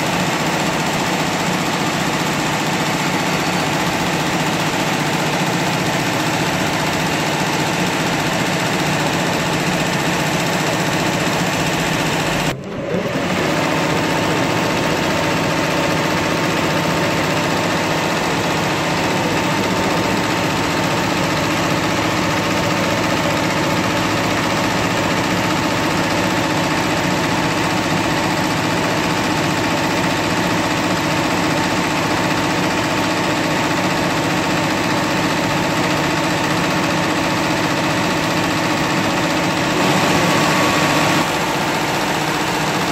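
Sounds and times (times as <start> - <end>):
embroidery machine running: 0.0 - 42.9.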